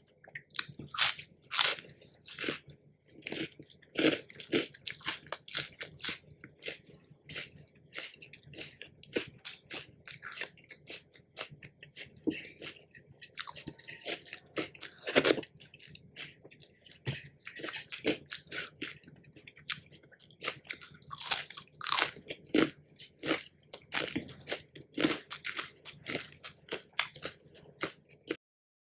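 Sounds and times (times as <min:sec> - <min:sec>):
crunchy chewing: 0:00.4 - 0:28.1.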